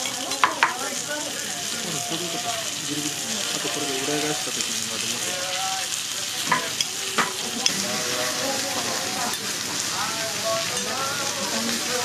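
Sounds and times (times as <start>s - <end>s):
steaks sizzling on a griddle: 0.0s - 12.0s.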